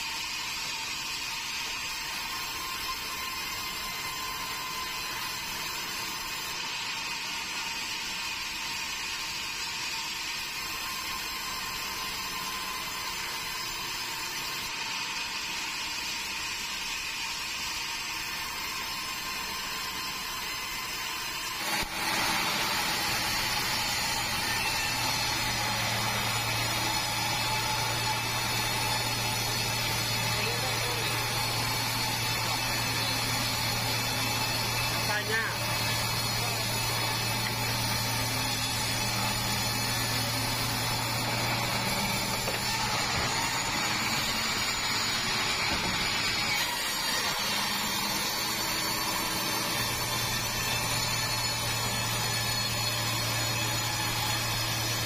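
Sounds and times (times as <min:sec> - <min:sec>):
band saw humming and whining: 0:00.0 - 0:55.0.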